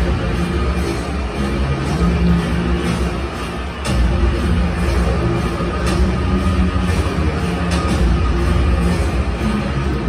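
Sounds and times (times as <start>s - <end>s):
stadium music over loudspeakers: 0.0s - 10.0s.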